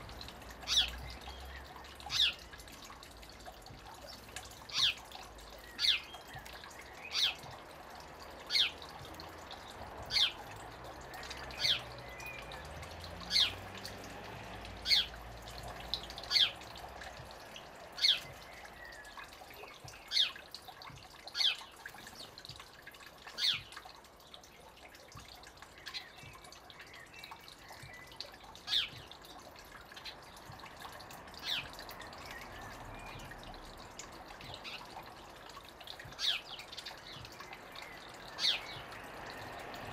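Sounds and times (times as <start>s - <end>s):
water trickling into pool: 0.0s - 39.9s.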